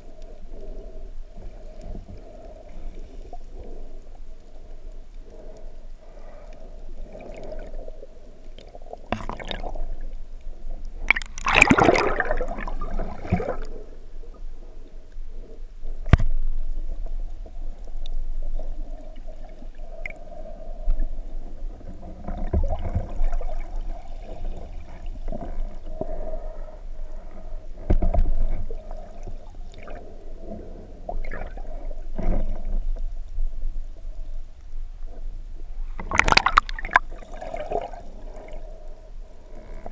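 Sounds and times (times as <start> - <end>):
muffled underwater wash: 0.0 - 39.9.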